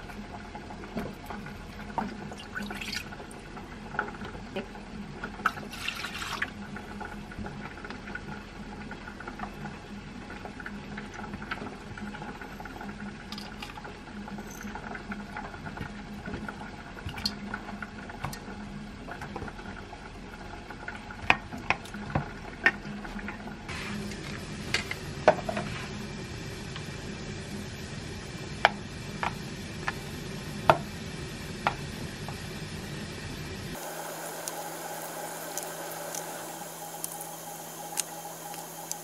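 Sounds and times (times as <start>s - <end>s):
liquid bubbling in saucepan: 0.0s - 39.0s.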